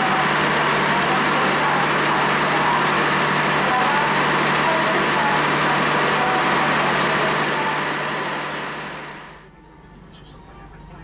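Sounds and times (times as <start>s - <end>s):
diesel train engine hum: 0.0s - 11.0s.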